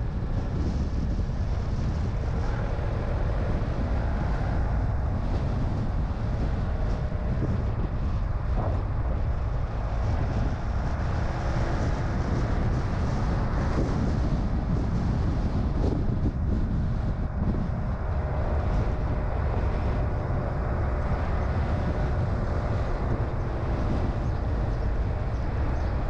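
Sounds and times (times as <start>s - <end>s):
car driving on road: 0.0s - 26.0s.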